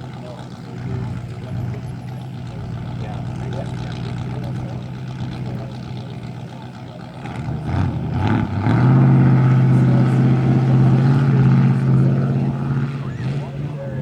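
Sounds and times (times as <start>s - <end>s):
loud truck engine passing close: 0.0s - 14.0s
truck engines running: 0.0s - 14.0s.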